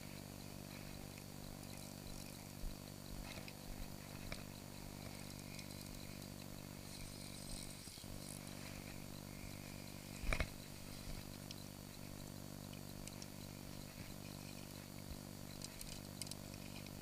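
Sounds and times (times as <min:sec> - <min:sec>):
faint ticks: 0:00.0 - 0:17.0
low machine hum: 0:00.0 - 0:17.0.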